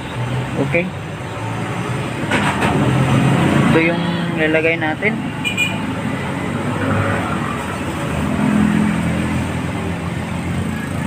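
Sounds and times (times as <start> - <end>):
passing motor traffic: 0.0 - 11.0.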